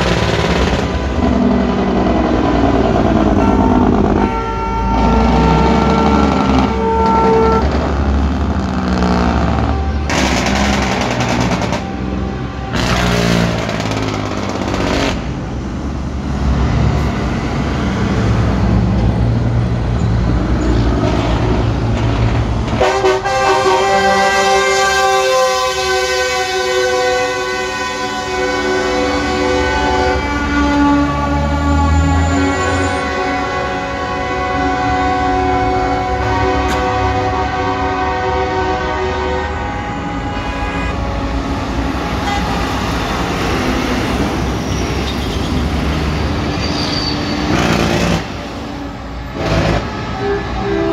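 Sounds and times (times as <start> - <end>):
truck air horns blowing: 0.0 - 15.3, 22.7 - 45.4, 46.5 - 50.9
diesel truck engines rumbling: 0.0 - 50.9.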